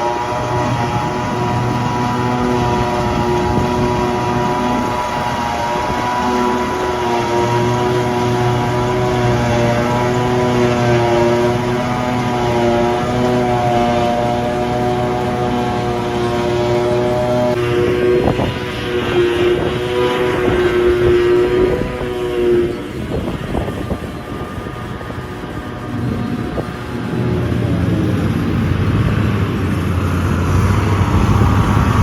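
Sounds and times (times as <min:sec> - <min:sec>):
diesel farm machinery engine drone: 0:00.0 - 0:32.0.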